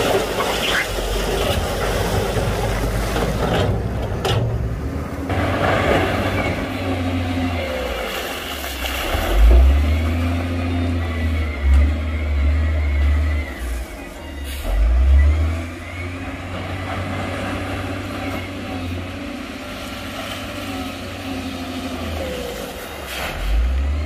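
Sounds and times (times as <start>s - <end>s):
diesel engines of heavy machinery: 0.0s - 24.0s.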